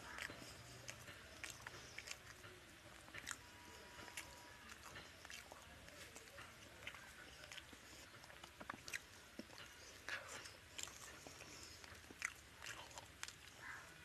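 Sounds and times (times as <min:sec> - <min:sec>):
person chewing food: 0:00.0 - 0:14.0
wet mouth clicks and smacks: 0:00.1 - 0:13.6.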